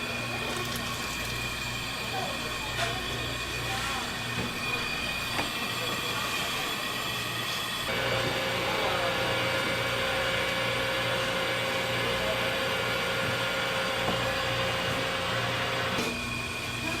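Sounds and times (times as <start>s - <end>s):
small machine whirring: 0.1s - 17.0s.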